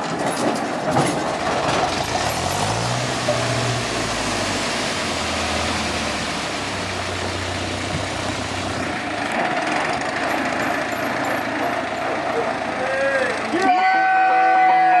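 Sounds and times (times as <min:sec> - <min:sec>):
tractor engine running: 0:00.0 - 0:13.8.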